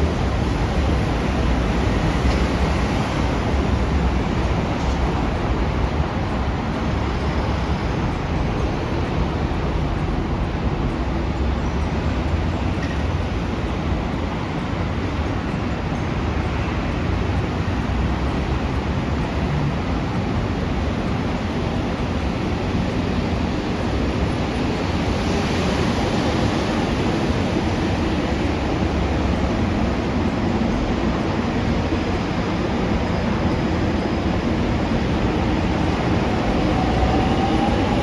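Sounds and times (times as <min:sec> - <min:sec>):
train rushing past: 0:00.0 - 0:38.0.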